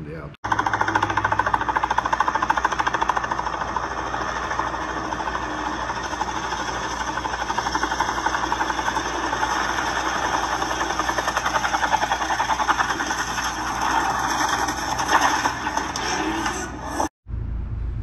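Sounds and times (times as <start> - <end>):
helicopter rotor beat: 0.0 - 16.0.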